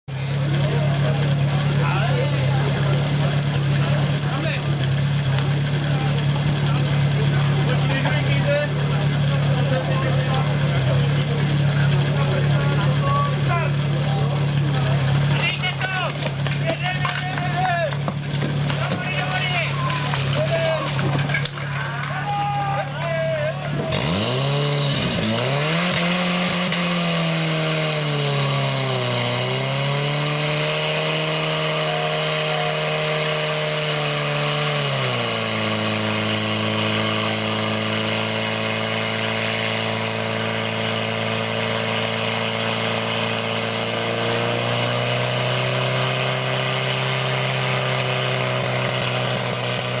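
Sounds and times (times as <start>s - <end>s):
petrol pump engine running hard: 0.1s - 50.0s.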